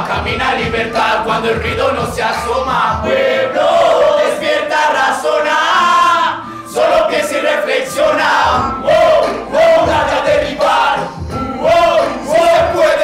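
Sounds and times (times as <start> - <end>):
group chanting and shouting in unison: 0.0 - 13.0.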